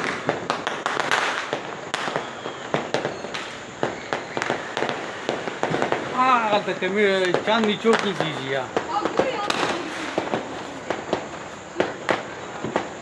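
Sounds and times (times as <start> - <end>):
fireworks and firecrackers banging: 0.0 - 13.0.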